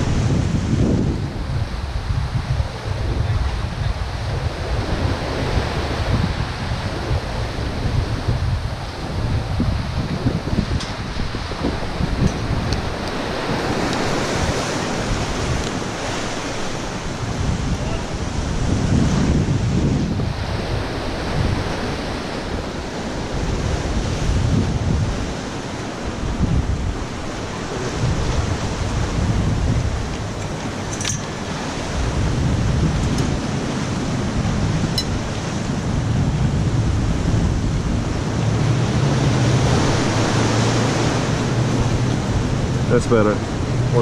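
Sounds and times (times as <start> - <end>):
gusty wind on microphone: 0.0 - 44.0
surf breaking against pier: 0.0 - 44.0.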